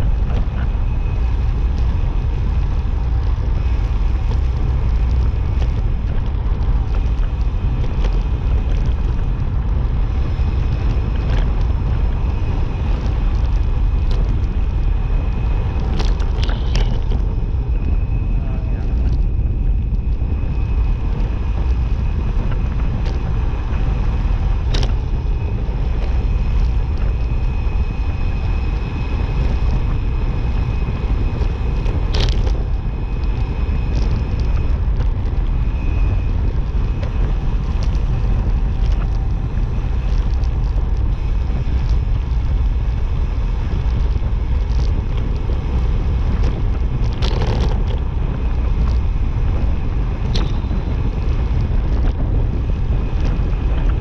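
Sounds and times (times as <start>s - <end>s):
faint thin whine: 0.0s - 54.0s
wind rushing over microphone: 0.0s - 54.0s.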